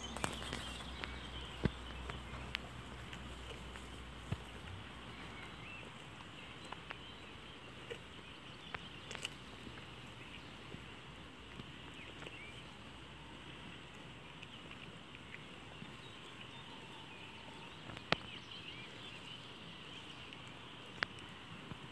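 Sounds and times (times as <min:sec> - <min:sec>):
goat chewing: 0:00.0 - 0:21.9.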